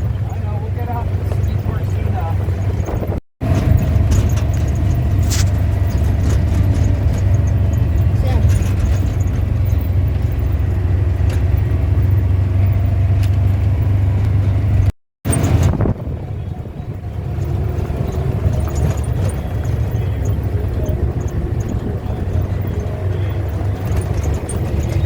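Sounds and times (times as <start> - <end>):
car driving rumble from inside: 0.0 - 25.0.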